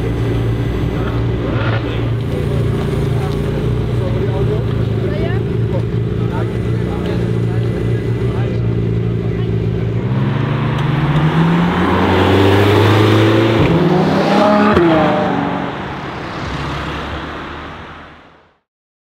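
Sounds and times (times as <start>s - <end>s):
car engine accelerating: 0.0s - 18.2s.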